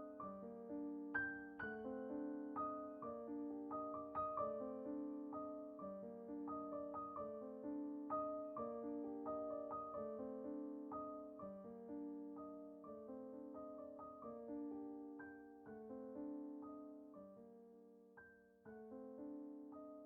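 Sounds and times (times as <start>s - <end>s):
quiet piano music: 0.0s - 20.0s.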